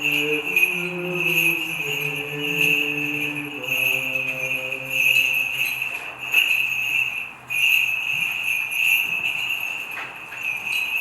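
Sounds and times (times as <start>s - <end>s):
censer bells jingling: 0.0s - 11.0s.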